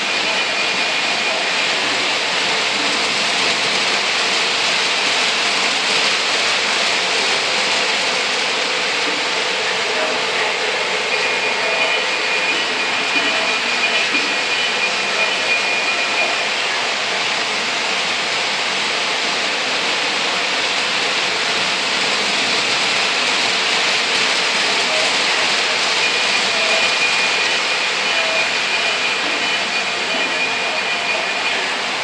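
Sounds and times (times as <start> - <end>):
model trains whirring rumble: 0.0 - 32.0
thin high whine: 0.0 - 32.0.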